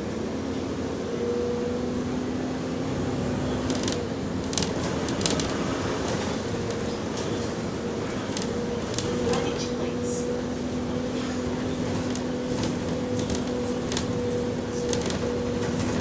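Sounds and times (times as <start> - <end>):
diesel bus engine humming: 0.0 - 16.0.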